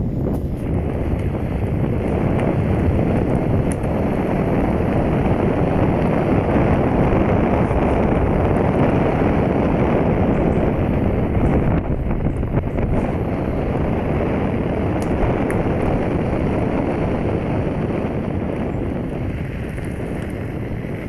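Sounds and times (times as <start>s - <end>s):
tyre noise on asphalt: 0.0s - 21.0s
wind on microphone: 0.0s - 21.0s.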